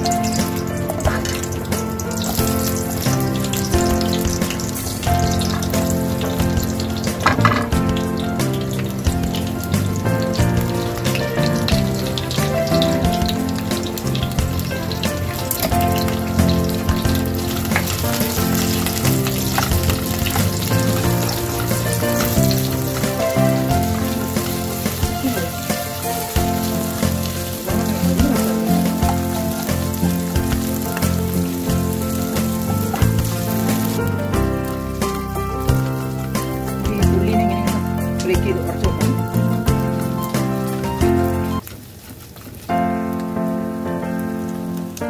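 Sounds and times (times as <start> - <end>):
background music: 0.0 - 41.6
vegetables sizzling in hot oil: 0.0 - 45.0.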